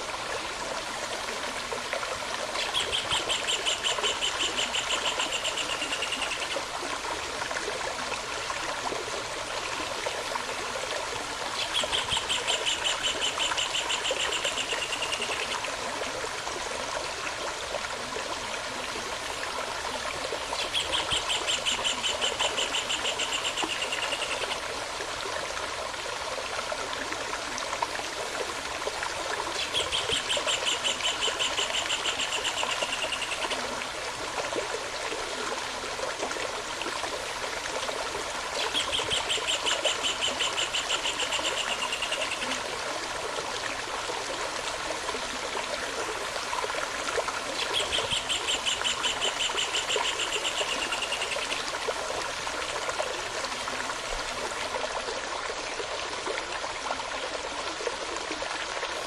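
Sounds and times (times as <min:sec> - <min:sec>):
flowing stream: 0:00.0 - 0:59.0.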